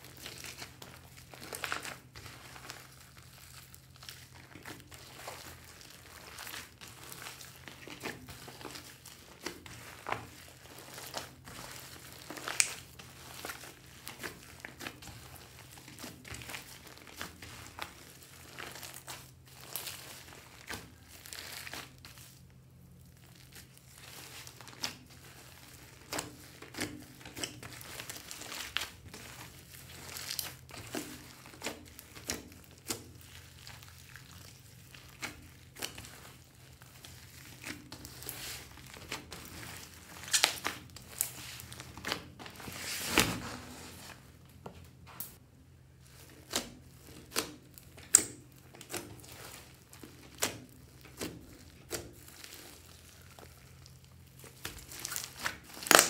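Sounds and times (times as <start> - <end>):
slime crackling and squelching: 0.0 - 56.0.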